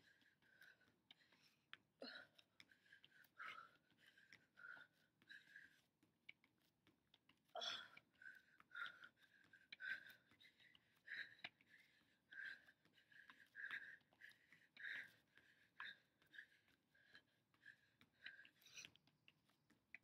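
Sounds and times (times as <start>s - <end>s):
hard breathing: 0.0s - 20.0s.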